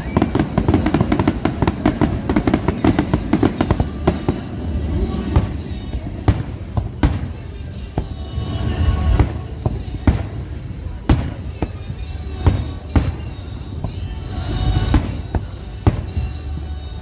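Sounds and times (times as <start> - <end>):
fireworks crackling bangs: 0.0 - 17.0
steady rumble: 0.0 - 17.0.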